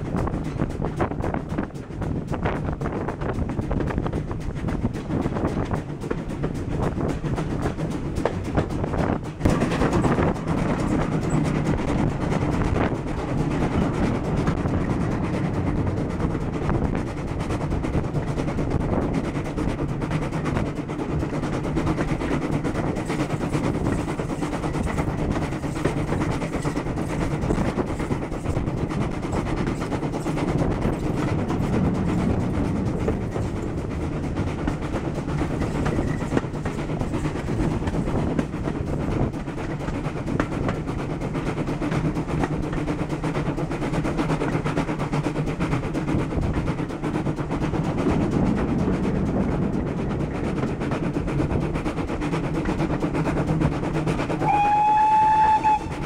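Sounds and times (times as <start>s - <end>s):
coaches rumbling on track: 0.0s - 56.0s
steam locomotive exhaust beats: 0.0s - 56.0s.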